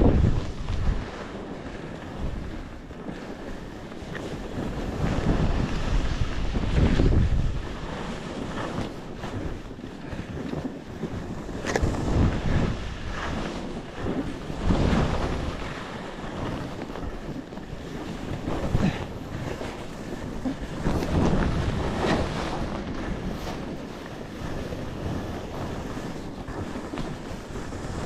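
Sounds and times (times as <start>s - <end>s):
skis scraping over snow: 0.0s - 28.0s
wind rushing over microphone: 0.0s - 28.0s.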